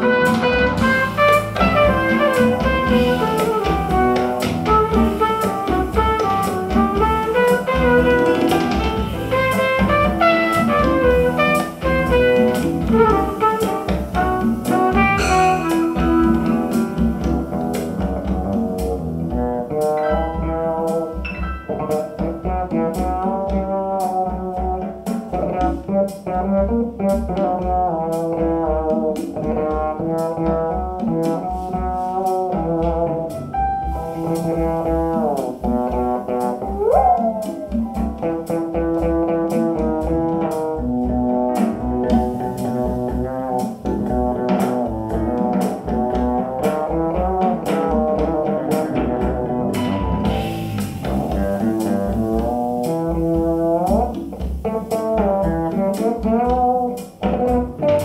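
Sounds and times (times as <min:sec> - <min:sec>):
pulsing bass beat: 0:00.0 - 0:24.6, 0:34.0 - 0:58.0
double bass: 0:00.0 - 0:58.0
horns playing jazz: 0:00.0 - 0:58.0.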